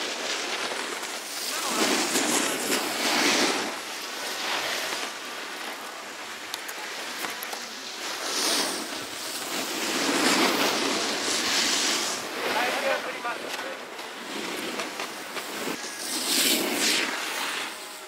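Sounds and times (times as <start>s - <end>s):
snowboard edges scraping snow: 0.0s - 18.0s.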